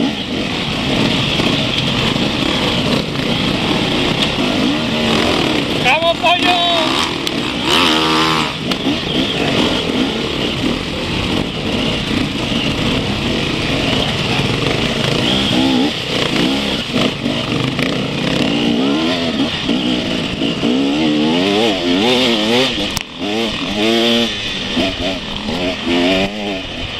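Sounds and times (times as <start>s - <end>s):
dirt bike engines revving: 0.0s - 26.9s.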